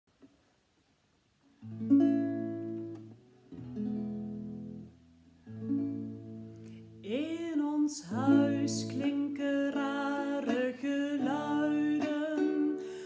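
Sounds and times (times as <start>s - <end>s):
classical guitar chords strummed: 1.6s - 13.0s.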